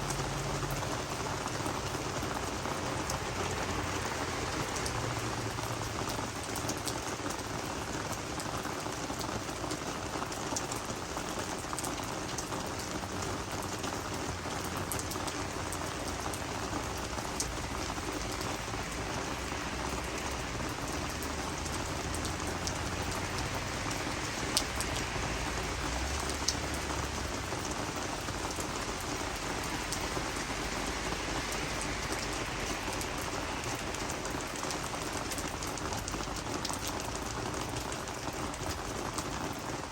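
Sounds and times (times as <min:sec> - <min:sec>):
rain pattering on plants: 0:00.0 - 0:39.9.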